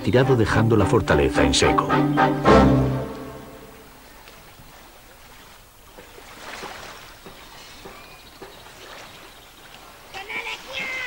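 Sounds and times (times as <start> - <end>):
water lapping and splashing: 0.0 - 11.0.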